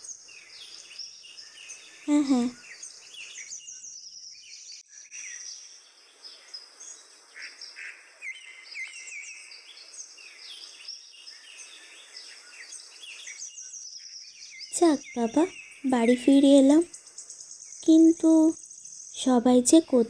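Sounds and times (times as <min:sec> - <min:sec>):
faint outdoor hiss: 0:00.0 - 0:20.0
small birds chirping: 0:00.0 - 0:20.0.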